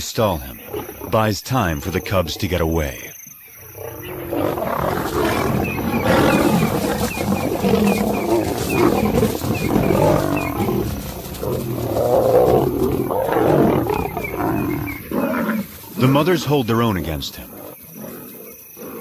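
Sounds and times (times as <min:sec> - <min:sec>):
lions growling and snarling: 0:00.0 - 0:19.0.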